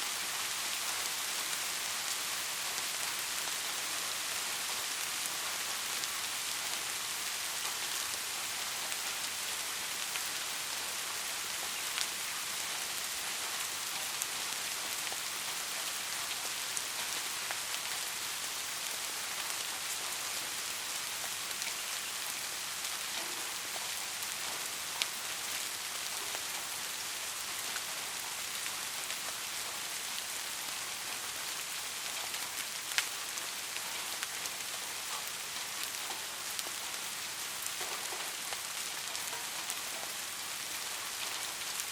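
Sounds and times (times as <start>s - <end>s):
rain falling on a surface: 0.0s - 41.9s.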